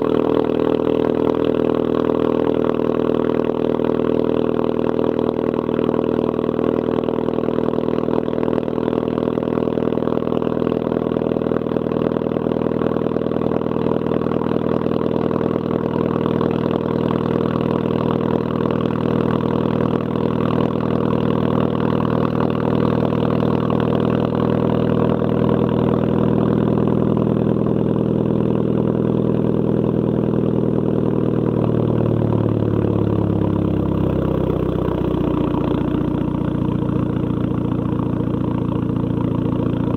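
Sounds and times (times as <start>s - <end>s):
car engine idling through exhaust: 0.0s - 39.9s.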